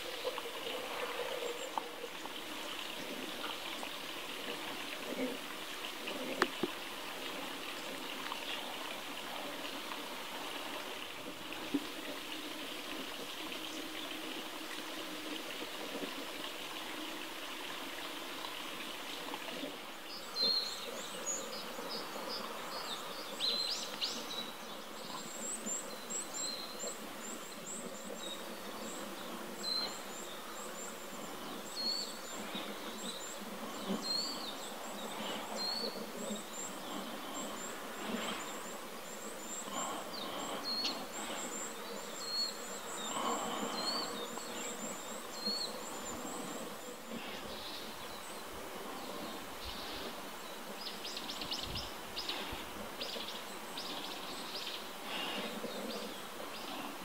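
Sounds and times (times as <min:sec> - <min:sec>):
songbirds calling: 0:00.0 - 0:57.0
steady outdoor hiss: 0:00.0 - 0:57.0.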